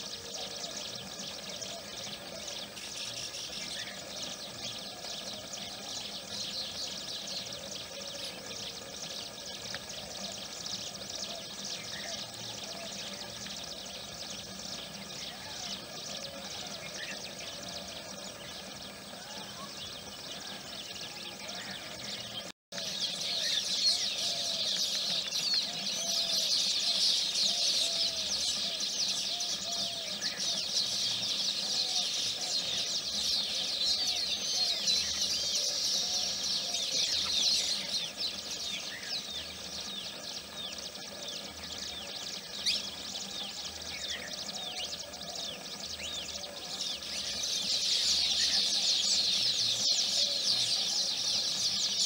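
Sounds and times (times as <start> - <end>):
birds chattering and twittering: 0.0 - 52.0
lower repeated bird calls: 0.0 - 52.0.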